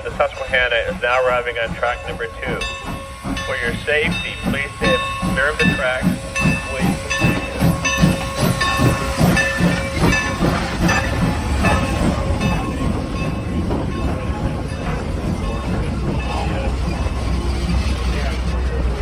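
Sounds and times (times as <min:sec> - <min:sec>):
steam hissing: 0:00.0 - 0:19.0
steam train rhythmic beats: 0:00.0 - 0:19.0.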